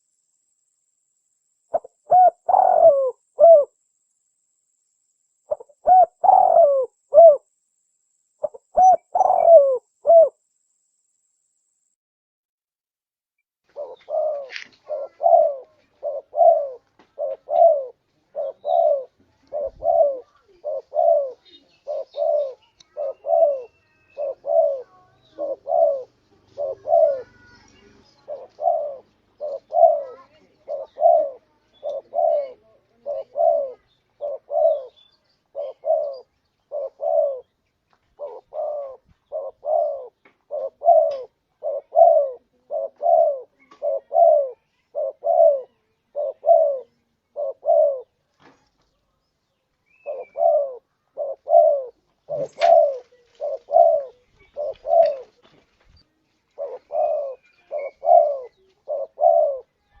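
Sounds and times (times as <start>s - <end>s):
dove cooing: 1.7s - 3.8s, 5.4s - 7.5s, 8.4s - 10.5s, 13.7s - 48.2s, 49.9s - 55.6s, 56.5s - 60.0s.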